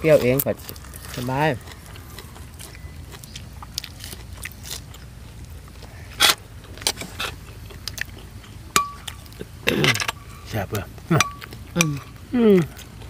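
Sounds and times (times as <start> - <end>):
low steady rumble: 0.0 - 13.0
people chewing and crunching: 0.0 - 13.0.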